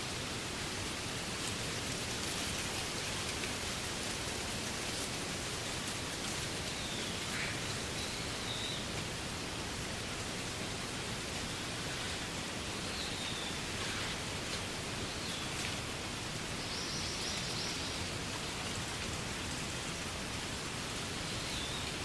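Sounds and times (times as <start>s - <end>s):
wind rustling reeds: 0.0s - 22.0s.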